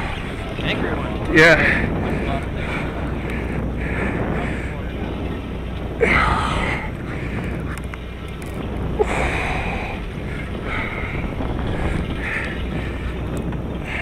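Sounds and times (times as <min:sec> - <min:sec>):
boat engine drone: 0:00.0 - 0:14.0
wind on microphone: 0:00.0 - 0:14.0.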